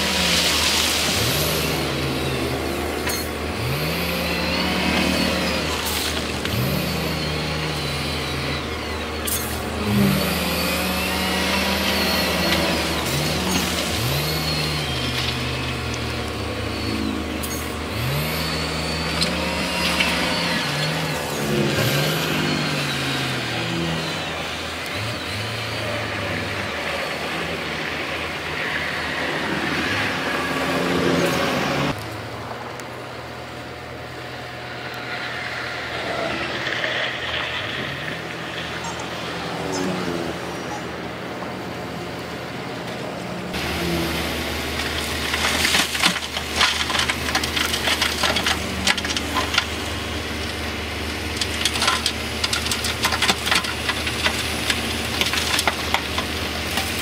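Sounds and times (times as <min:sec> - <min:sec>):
diesel engines revving: 0:00.0 - 0:57.0
low engine drone: 0:00.0 - 0:57.0.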